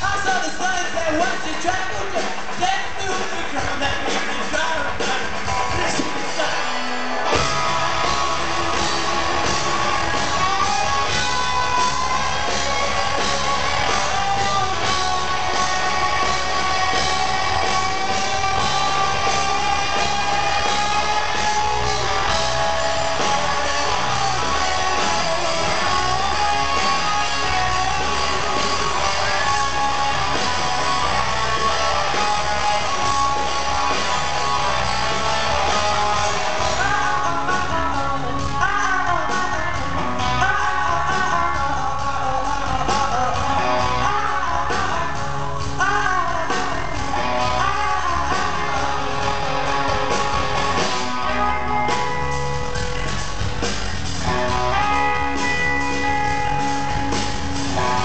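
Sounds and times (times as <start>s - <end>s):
person singing: 0.0s - 52.4s
drums: 0.0s - 58.0s
loud electric guitars: 0.0s - 58.0s.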